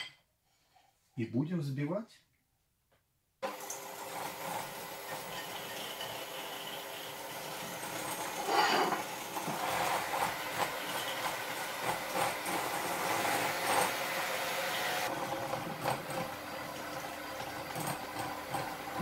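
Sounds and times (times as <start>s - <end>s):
electric mixer whipping: 3.4s - 19.0s.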